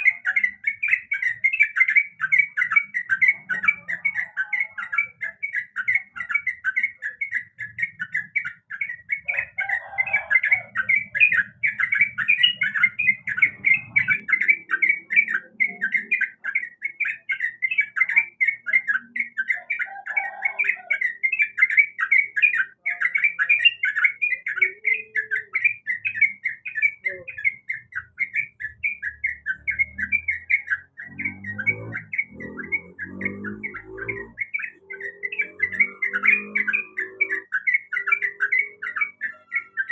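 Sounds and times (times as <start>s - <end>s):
bird singing fast chirps: 0.0s - 39.9s.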